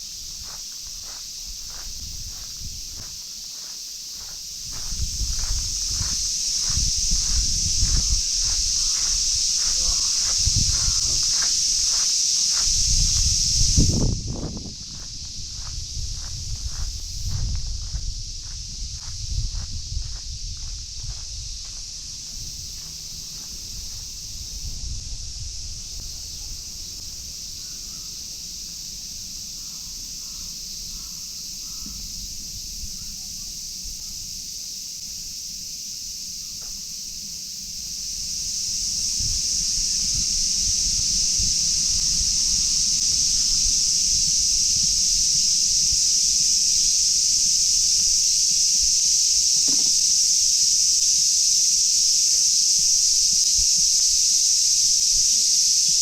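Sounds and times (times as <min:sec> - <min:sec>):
cicadas calling: 0:00.0 - 0:56.0.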